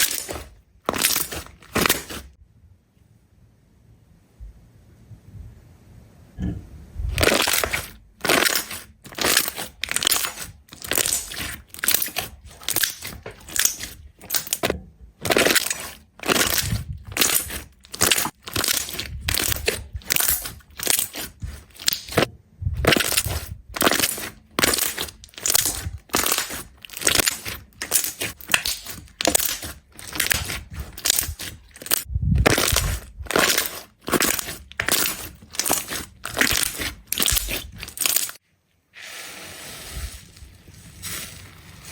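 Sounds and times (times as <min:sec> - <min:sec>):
crunchy slime crackling: 0:00.0 - 0:02.4, 0:07.1 - 0:38.4.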